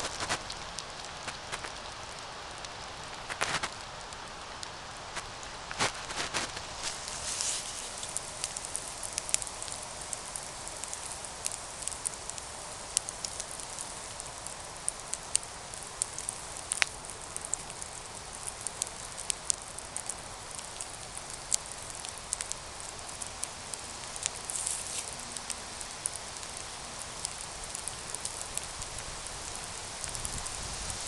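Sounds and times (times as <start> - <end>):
campfire hissing: 0.0 - 31.0
wood crackling and popping: 0.0 - 31.0.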